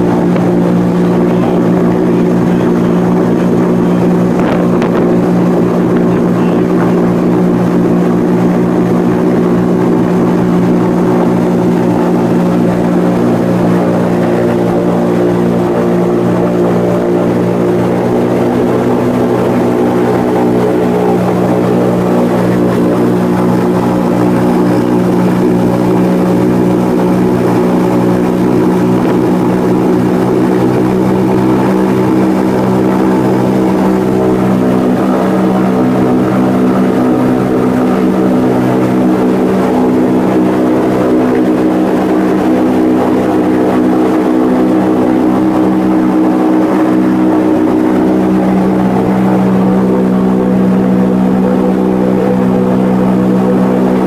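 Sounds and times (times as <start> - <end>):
airship engines and propellers droning: 0.0 - 54.0.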